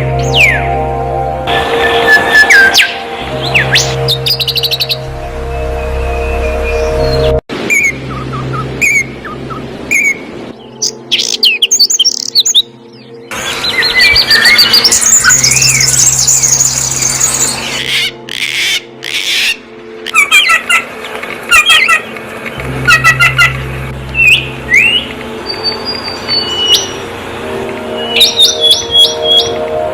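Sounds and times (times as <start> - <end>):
songbirds chirping and singing: 0.0 - 29.9.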